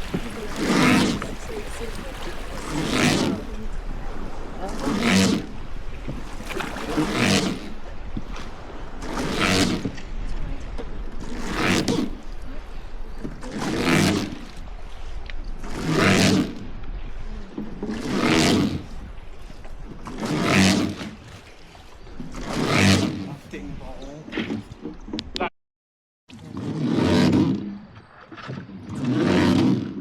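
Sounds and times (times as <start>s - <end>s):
oars swishing water: 0.0s - 25.5s, 26.3s - 30.0s.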